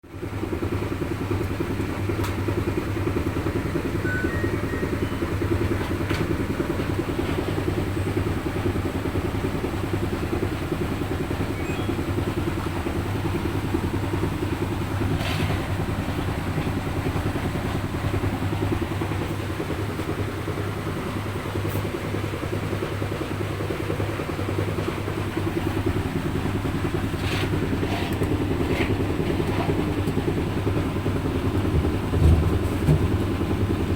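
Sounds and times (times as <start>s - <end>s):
washing machine humming: 0.0s - 33.9s.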